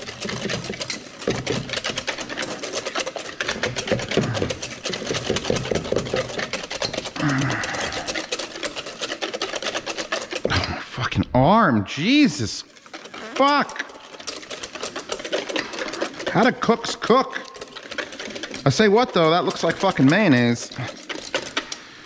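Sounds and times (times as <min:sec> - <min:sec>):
whisk clattering against bowl: 0:00.0 - 0:10.6, 0:12.6 - 0:21.8.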